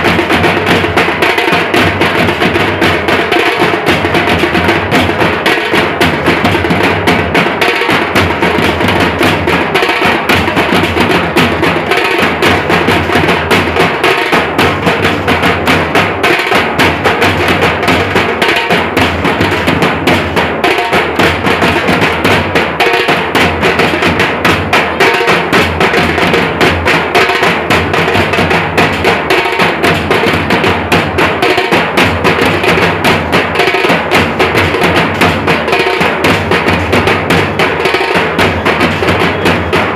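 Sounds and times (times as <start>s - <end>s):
dhol and tasha drumming: 0.0s - 39.9s.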